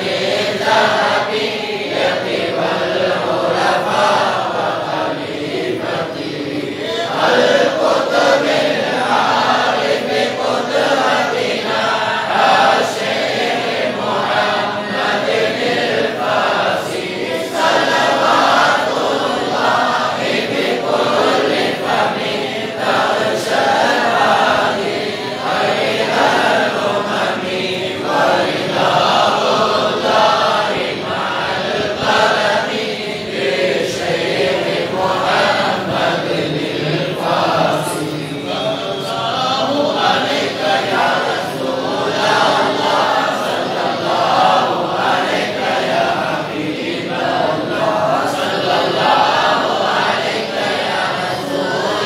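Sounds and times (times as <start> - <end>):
men chanting in unison: 0.0 - 52.0.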